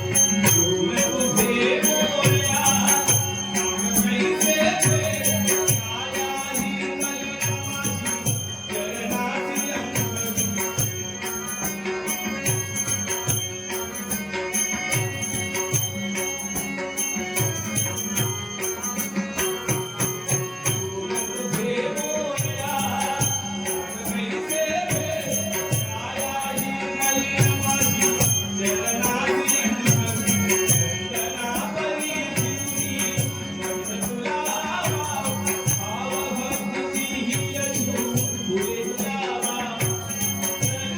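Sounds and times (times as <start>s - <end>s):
jingling small cymbals: 0.0s - 40.9s
steady drum beat: 0.0s - 40.9s.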